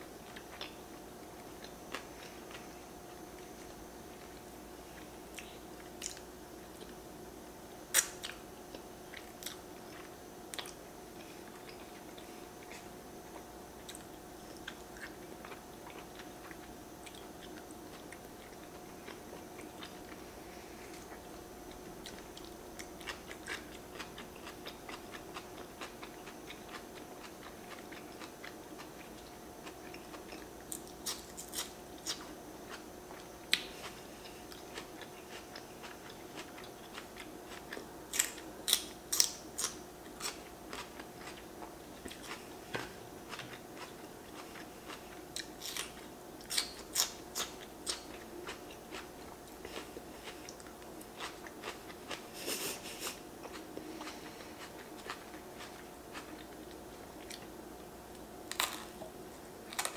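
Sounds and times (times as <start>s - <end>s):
steady low hum: 0.0s - 59.9s
chewing and wet mouth sounds: 7.9s - 59.9s.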